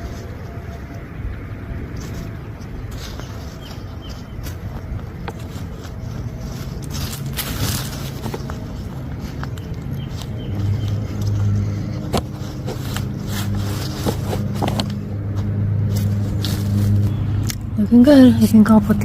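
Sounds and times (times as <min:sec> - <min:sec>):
vehicle engine humming: 0:00.0 - 0:19.0
digging in soil: 0:01.8 - 0:18.8.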